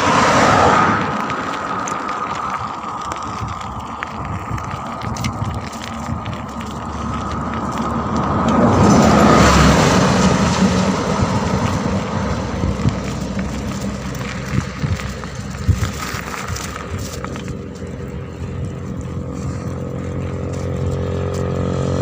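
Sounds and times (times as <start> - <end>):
motor vehicle passing: 0.0 - 22.0
wind and road noise: 0.0 - 22.0.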